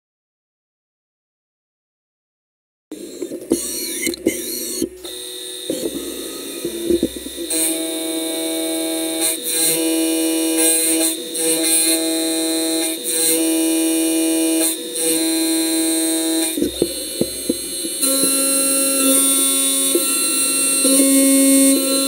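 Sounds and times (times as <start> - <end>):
milling cutter whine: 2.9 - 22.0.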